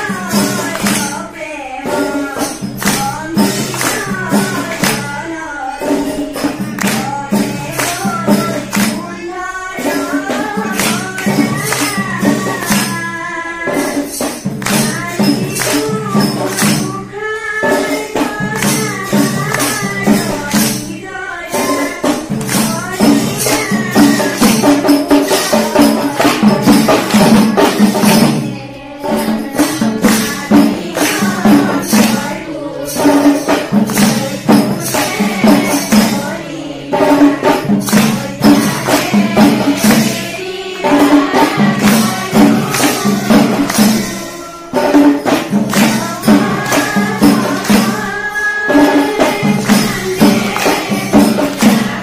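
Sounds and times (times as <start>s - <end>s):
children singing a devotional chant: 0.0s - 52.0s
hand claps: 0.2s - 1.3s, 1.9s - 5.2s, 5.8s - 9.2s, 9.8s - 13.1s, 13.7s - 20.8s, 21.5s - 28.6s, 29.4s - 36.2s, 37.3s - 52.0s.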